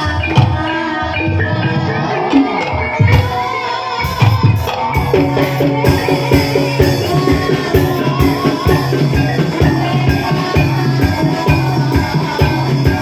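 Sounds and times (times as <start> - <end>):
drums beating a steady rhythm: 0.0 - 13.0
metallophone notes: 0.0 - 13.0.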